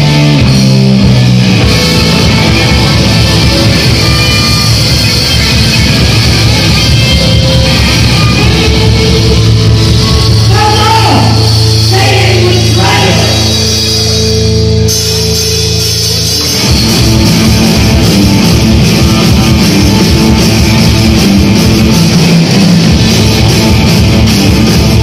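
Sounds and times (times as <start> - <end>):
electric guitar chord ringing: 0.0 - 25.0
rock band playing: 0.0 - 25.0.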